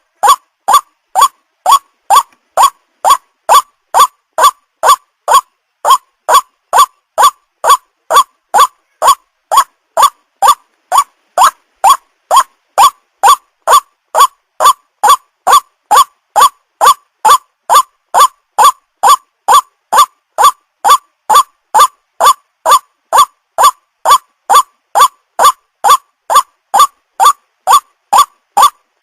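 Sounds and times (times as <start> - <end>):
waterhen calling: 0.0 - 28.8.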